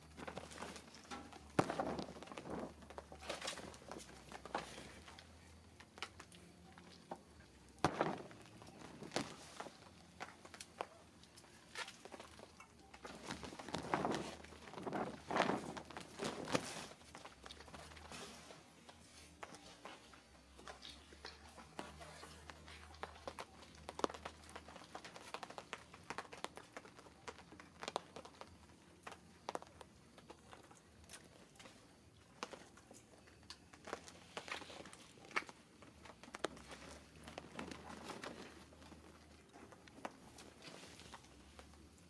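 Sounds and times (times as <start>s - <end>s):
faint crinkling rustles and clicks: 0.0s - 42.0s.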